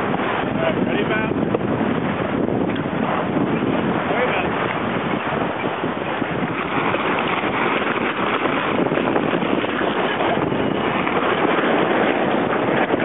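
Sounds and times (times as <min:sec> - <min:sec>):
water running along hull: 0:00.0 - 0:13.0
wind on microphone: 0:00.0 - 0:13.0.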